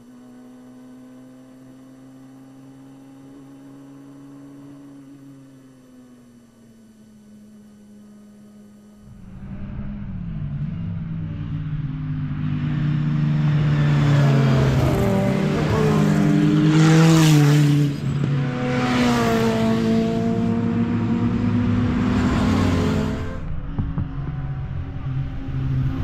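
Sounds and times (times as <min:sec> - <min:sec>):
racing car engines at high revs: 0:00.0 - 0:26.0.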